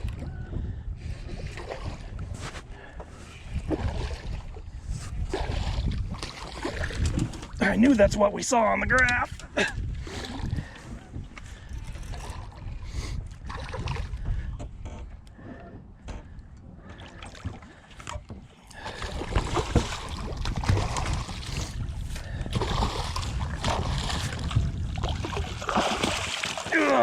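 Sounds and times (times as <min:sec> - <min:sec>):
water splashing against boat: 0:00.0 - 0:27.0
wind rumbling on microphone: 0:00.0 - 0:27.0.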